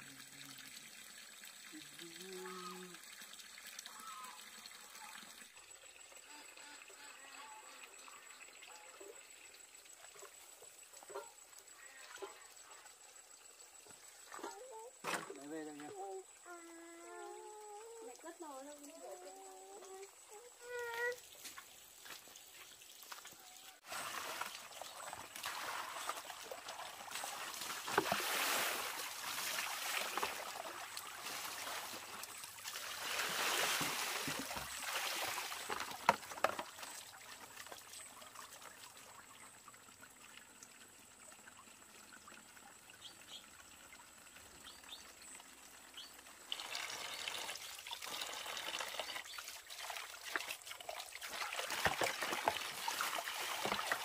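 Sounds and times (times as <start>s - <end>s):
water trickling and pouring: 0.0s - 54.0s.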